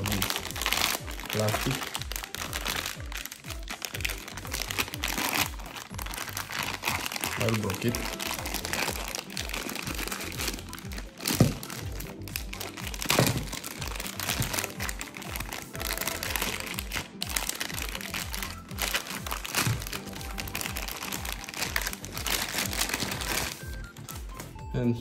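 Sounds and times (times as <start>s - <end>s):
plastic bag crinkling: 0.0s - 24.5s
background music with low beat: 0.0s - 25.0s.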